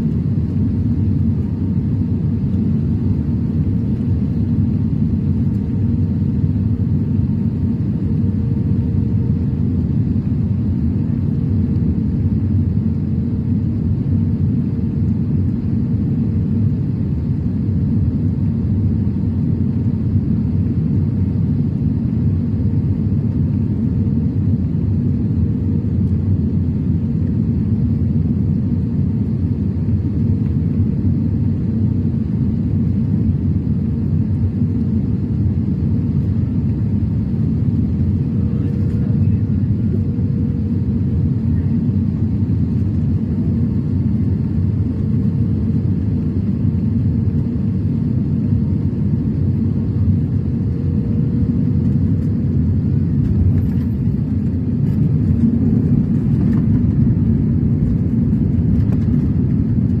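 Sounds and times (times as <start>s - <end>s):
airliner cabin rumble: 0.0s - 60.0s.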